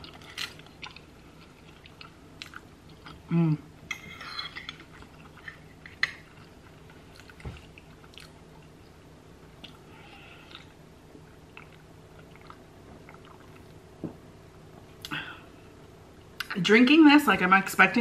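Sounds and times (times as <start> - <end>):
soft chewing: 0.0 - 15.3.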